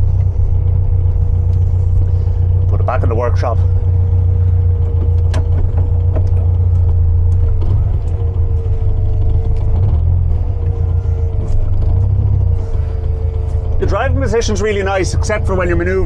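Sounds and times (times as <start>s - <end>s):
car engine low rumble: 0.0s - 16.0s
faint engine whine: 0.0s - 16.0s.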